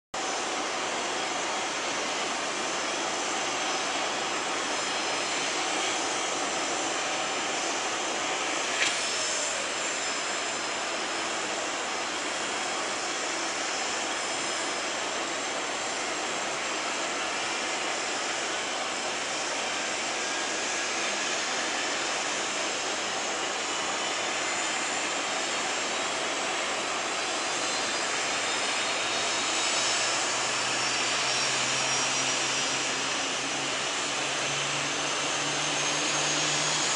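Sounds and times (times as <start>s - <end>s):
jet engines rushing: 0.2s - 36.9s.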